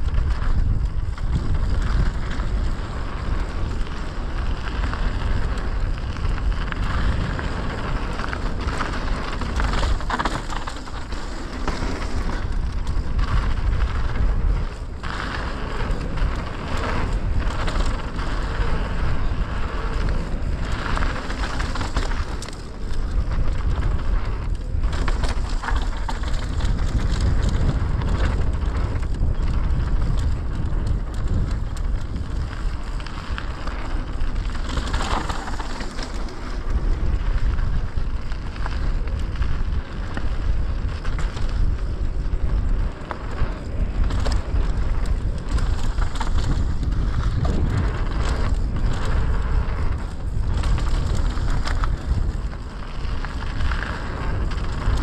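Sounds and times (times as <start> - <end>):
bike knocking and rattling: 0.0 - 55.0
bike tyres crunching on dirt: 0.0 - 55.0
wind on microphone: 0.0 - 55.0.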